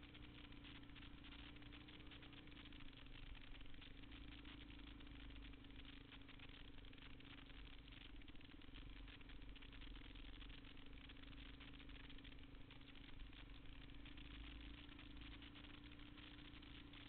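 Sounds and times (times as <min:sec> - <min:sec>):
faint motorcycle engine running: 0:00.0 - 0:17.0.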